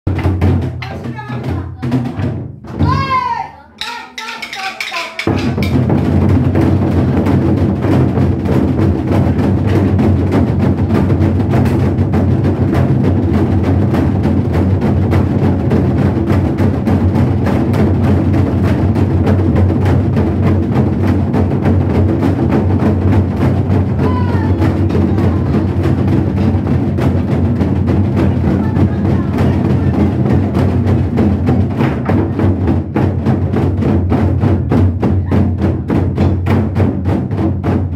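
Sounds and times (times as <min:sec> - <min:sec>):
barrel drums played fast: 0:00.1 - 0:37.9.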